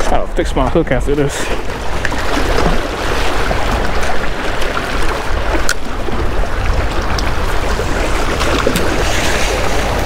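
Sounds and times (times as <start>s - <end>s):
wind buffeting microphone: 0.0s - 10.0s
water splashing against rocks: 1.2s - 10.0s.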